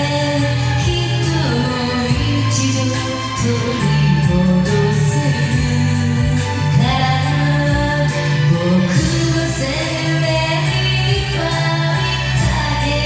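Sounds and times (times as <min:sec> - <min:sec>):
person singing along: 0:00.0 - 0:13.0
pop ballad backing track: 0:00.0 - 0:13.0.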